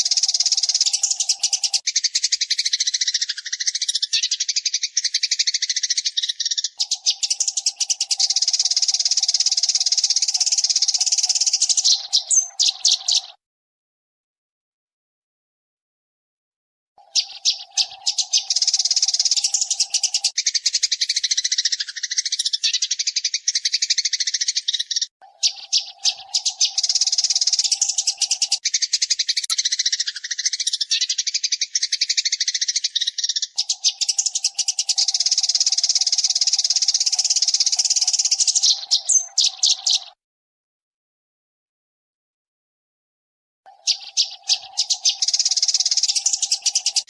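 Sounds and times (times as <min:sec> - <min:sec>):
sparrows chirping: 0:00.0 - 0:13.4, 0:17.0 - 0:40.2, 0:43.7 - 0:47.0.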